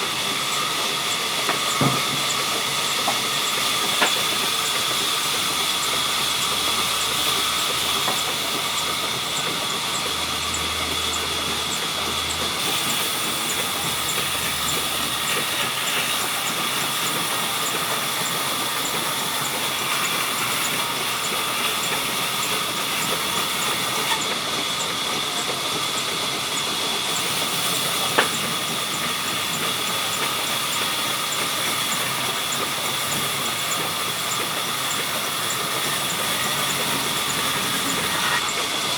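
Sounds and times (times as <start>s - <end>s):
faint high ticking: 0.0s - 38.7s
saw hissing and whining: 0.0s - 38.9s.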